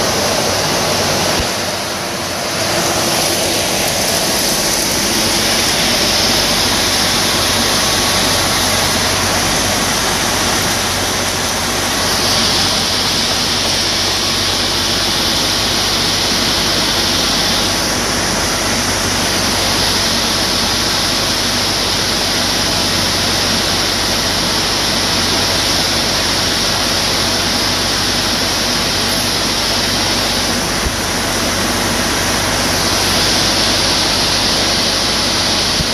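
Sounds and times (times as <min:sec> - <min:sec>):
cooling fans rushing air: 0:00.0 - 0:35.9.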